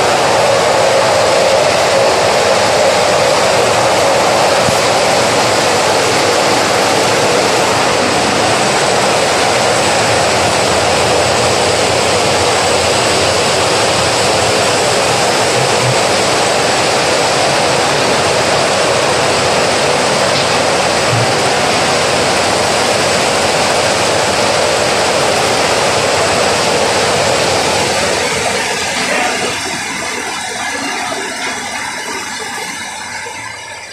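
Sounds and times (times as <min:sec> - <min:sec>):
folding machine running: 0:00.0 - 0:33.9.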